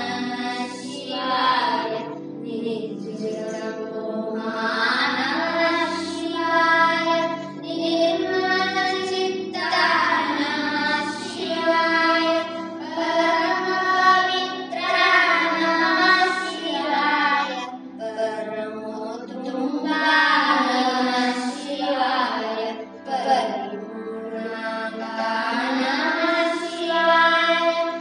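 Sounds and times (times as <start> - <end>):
backing music: 0.0 - 28.0
boys singing: 0.0 - 28.0.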